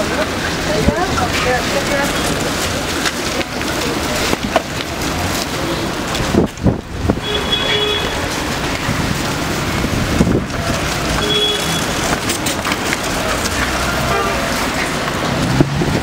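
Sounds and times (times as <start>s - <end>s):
strong wind gusting: 0.0s - 16.0s
wind buffeting microphone: 2.3s - 12.3s, 13.0s - 16.0s.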